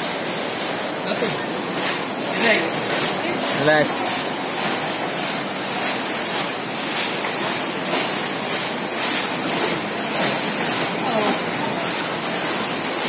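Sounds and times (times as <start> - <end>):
water lapping around rowing boat: 0.0 - 13.0.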